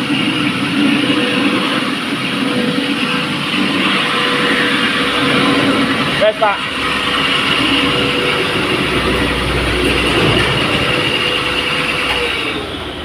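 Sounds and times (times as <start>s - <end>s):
concrete floor grinder running: 0.0s - 13.0s.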